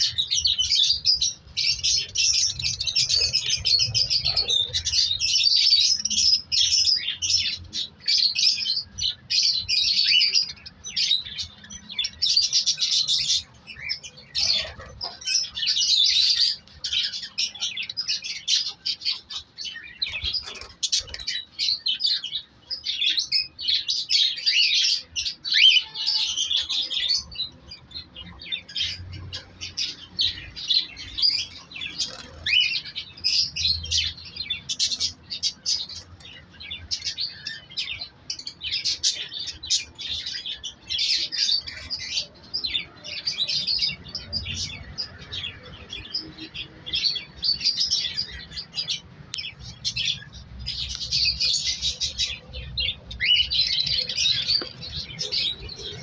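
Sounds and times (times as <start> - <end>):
cockatiels chirping: 0.0 - 27.3, 28.1 - 56.0.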